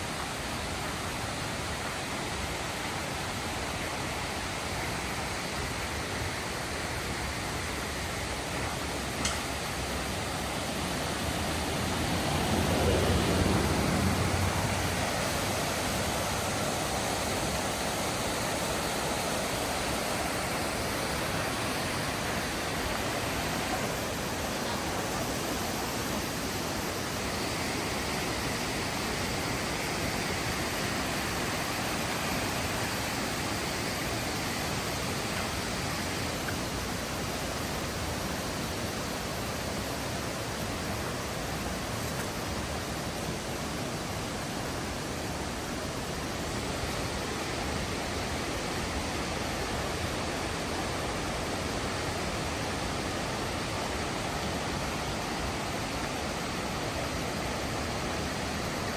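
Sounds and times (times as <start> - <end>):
river rushing over rocks: 0.0 - 58.9.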